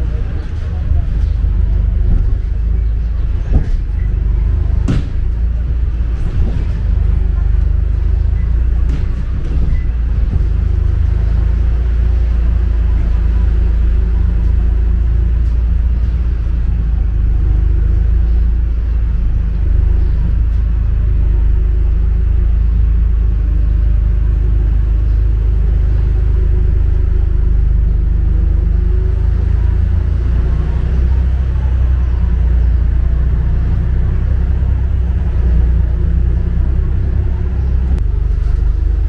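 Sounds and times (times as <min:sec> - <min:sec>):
street ambience low rumble: 0:00.0 - 0:39.0.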